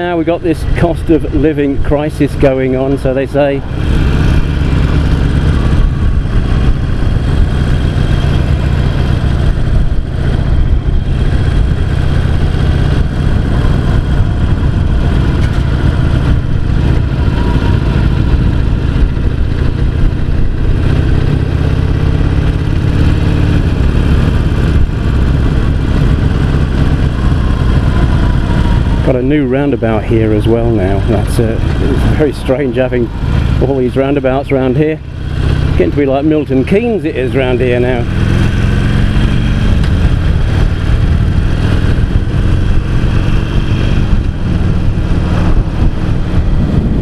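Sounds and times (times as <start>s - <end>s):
motorcycle engine cruising: 0.0s - 47.0s
road noise: 0.0s - 47.0s.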